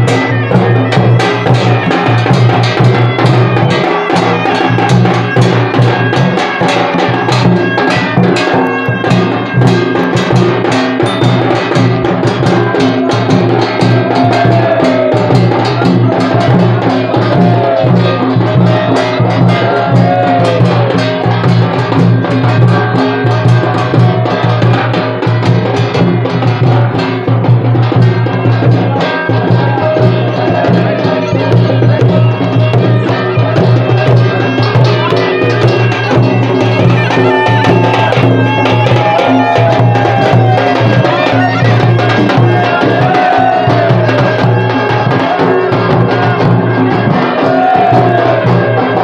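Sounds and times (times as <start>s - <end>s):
wavering melody: 0.0s - 25.3s, 26.2s - 49.0s
barrel drums beaten fast: 0.0s - 49.0s.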